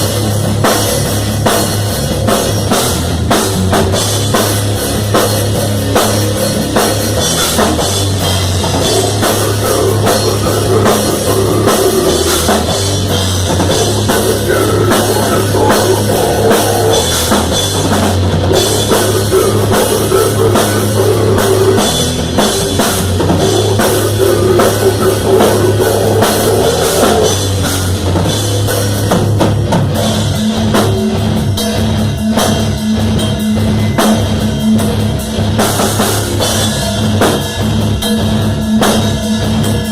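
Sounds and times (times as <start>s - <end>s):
drum kit playing: 0.0s - 39.9s
guitar: 0.0s - 39.9s
rock music: 0.0s - 39.9s.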